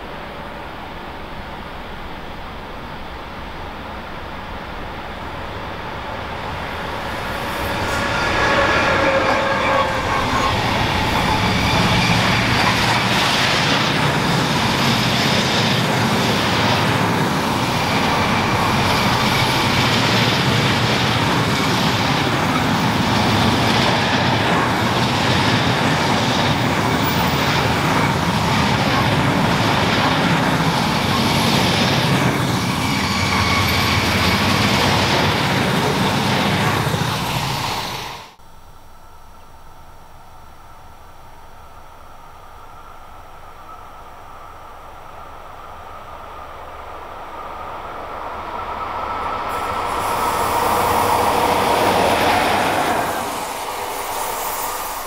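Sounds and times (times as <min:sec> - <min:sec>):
freight train wheels rumbling: 0:00.0 - 0:38.4, 0:40.0 - 0:55.0.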